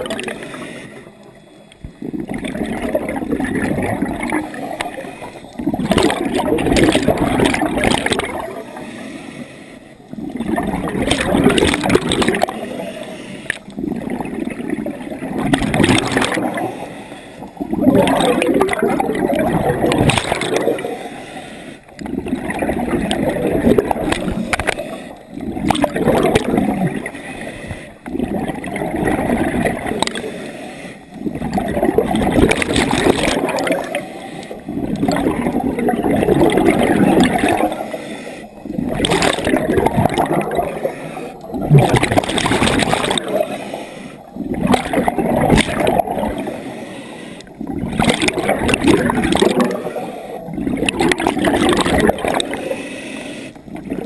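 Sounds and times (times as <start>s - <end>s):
underwater exhaled bubbles: 0.0s - 54.0s.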